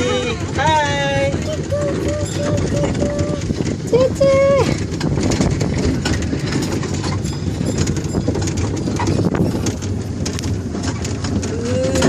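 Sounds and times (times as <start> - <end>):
miniature train clattering on track: 0.0 - 12.0.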